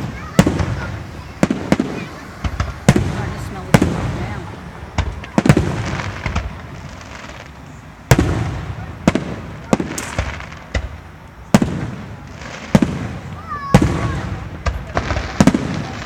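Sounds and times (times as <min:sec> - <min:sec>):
fireworks booming with echo: 0:00.0 - 0:16.0.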